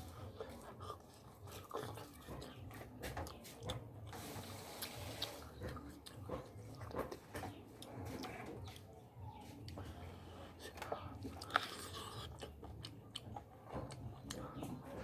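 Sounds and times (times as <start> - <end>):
wet chewing and mouth smacking: 0.0 - 15.0.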